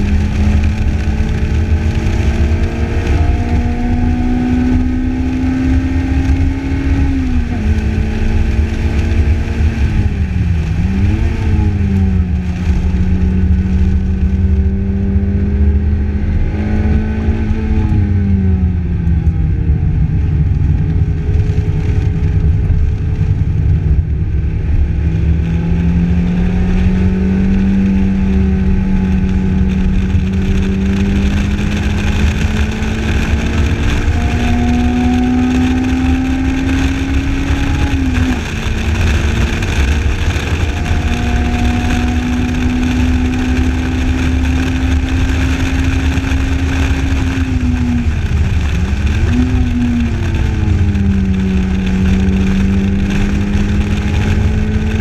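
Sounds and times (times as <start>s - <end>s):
heavy wind and road noise: 0.0s - 55.0s.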